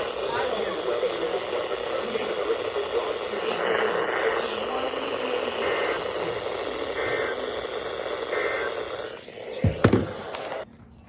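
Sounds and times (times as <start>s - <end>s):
radio static hiss: 0.0s - 10.6s
sharp clicks: 1.0s - 10.6s.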